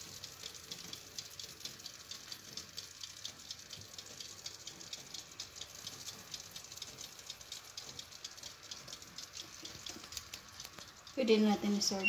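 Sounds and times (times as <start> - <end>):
faint sizzling crackle: 0.0 - 12.0.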